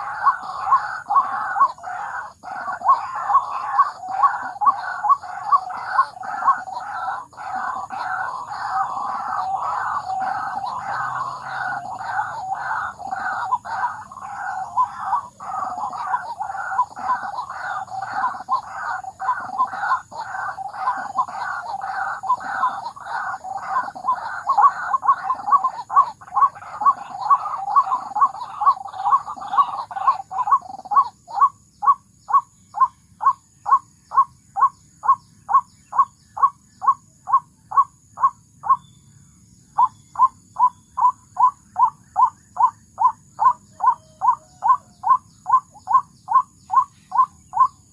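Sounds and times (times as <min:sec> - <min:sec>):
waterhen calls: 0:00.0 - 0:38.8, 0:39.8 - 0:47.8.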